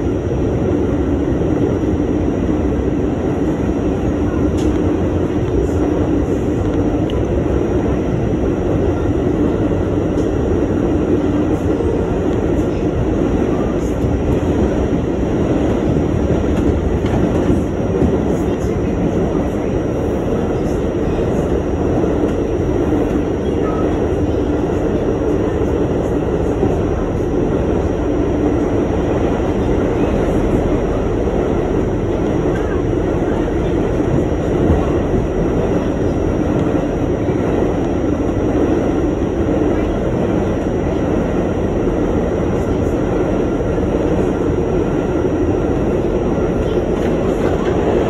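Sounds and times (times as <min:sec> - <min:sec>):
subway train wheels on rails: 0:00.0 - 0:48.0.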